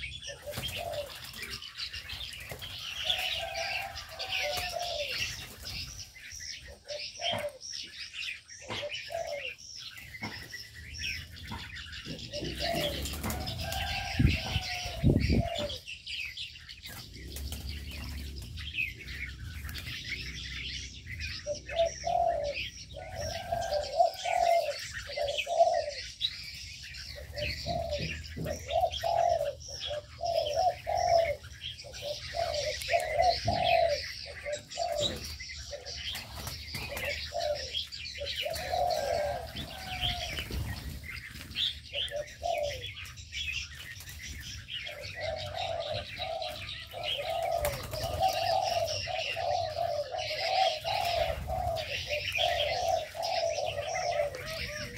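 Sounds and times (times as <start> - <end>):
doves cooing: 0.0 - 54.9
small birds chirping: 0.0 - 54.9.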